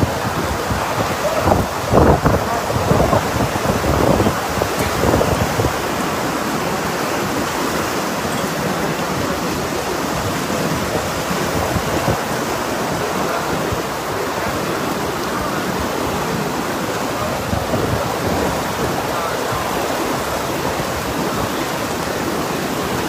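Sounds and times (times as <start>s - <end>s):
gusty wind: 0.0s - 23.0s
heavy rain pouring: 0.0s - 23.0s.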